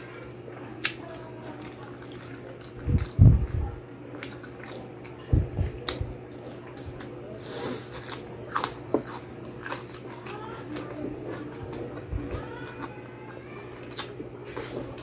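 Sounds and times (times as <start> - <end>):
chewing crispy pork skin: 0.0 - 15.0.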